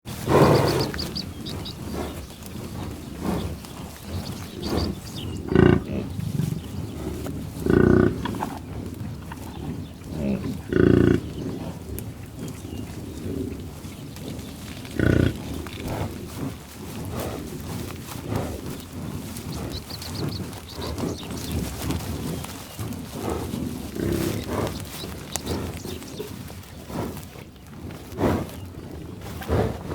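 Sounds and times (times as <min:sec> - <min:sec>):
buffalo mooing and grunting: 0:00.1 - 0:29.9.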